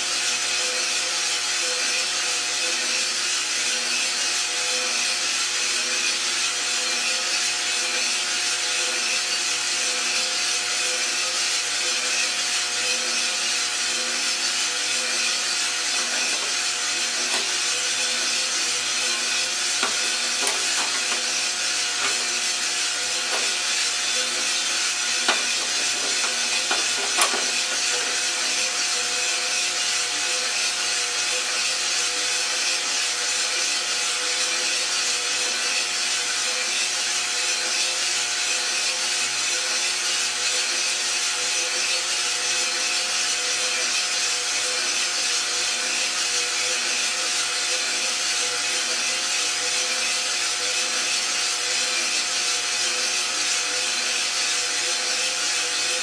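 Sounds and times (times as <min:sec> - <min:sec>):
coffee roaster drum whirring: 0:00.0 - 0:56.0.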